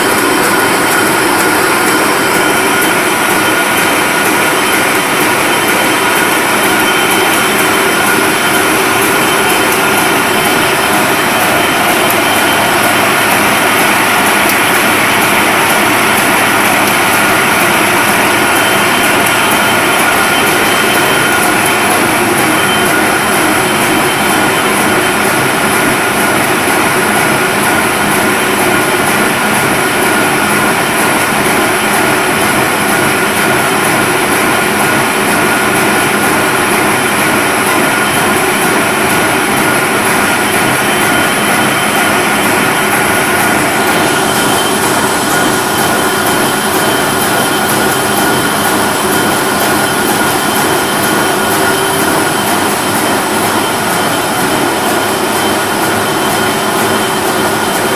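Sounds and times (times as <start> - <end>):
high-pitched whine: 0.0 - 57.9
machine whirring: 0.0 - 57.9.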